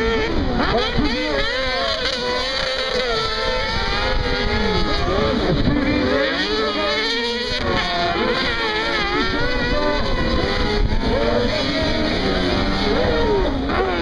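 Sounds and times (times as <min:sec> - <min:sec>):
racing buggy engines revving: 0:00.0 - 0:14.0.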